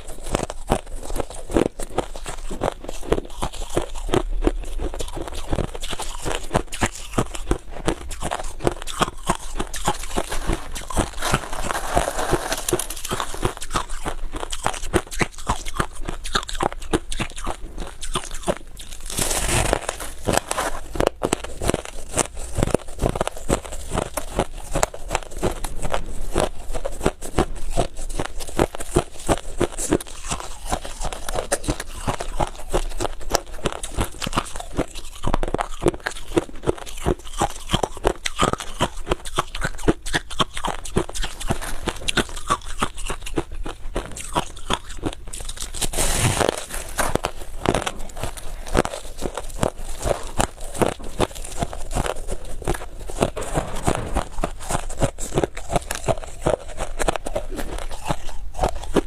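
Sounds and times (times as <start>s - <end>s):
crunching and chewing ice: 0.0s - 59.0s.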